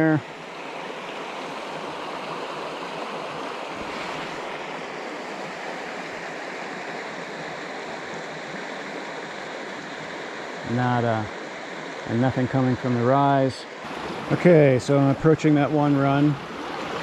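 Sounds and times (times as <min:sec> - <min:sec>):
creek flowing water: 0:00.0 - 0:17.0.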